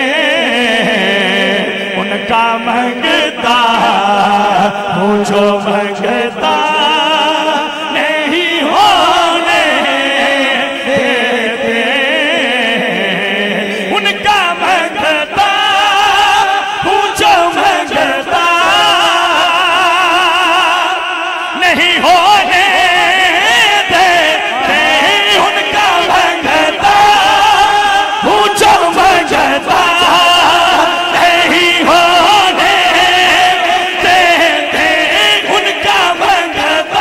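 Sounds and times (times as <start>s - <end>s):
man singing into a microphone: 0.0s - 37.0s.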